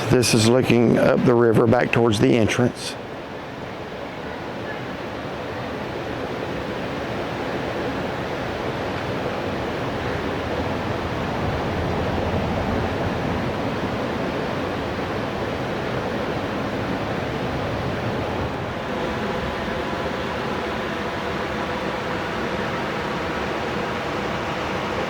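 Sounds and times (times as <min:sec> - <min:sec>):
river rushing over rocks: 0:00.0 - 0:25.0.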